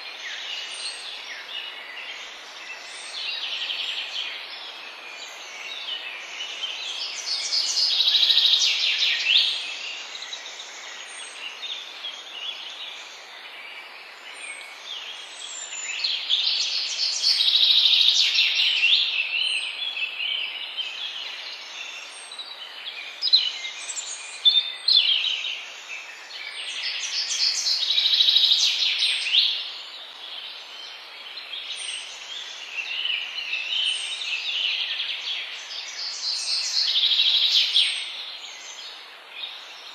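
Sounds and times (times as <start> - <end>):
background hiss: 0.0 - 39.9
songbirds singing: 0.0 - 39.9.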